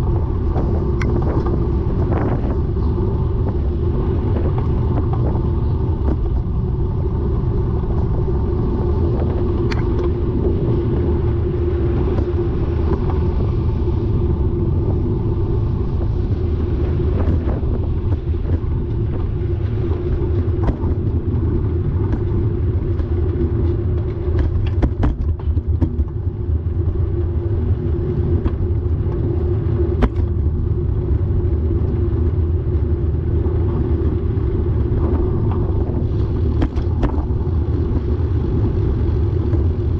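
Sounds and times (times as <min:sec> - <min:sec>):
bicycle tyre noise: 0:00.0 - 0:39.9
wind rumble: 0:00.0 - 0:39.9.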